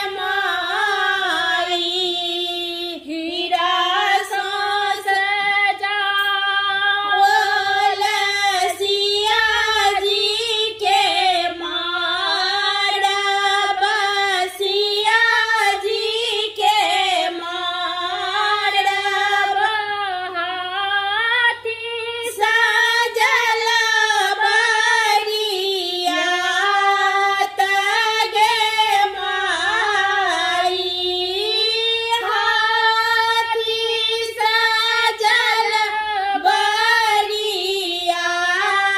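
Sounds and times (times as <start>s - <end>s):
two women singing folk song: 0.0s - 38.9s.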